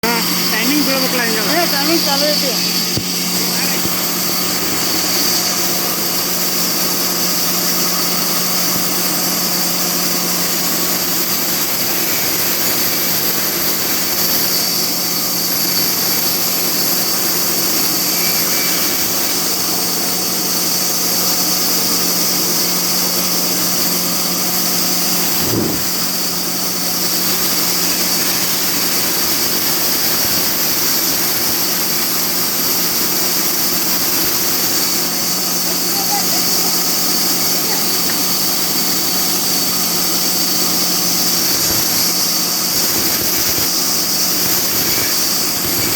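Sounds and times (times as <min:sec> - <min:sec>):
motor hum: 0:00.0 - 0:45.9.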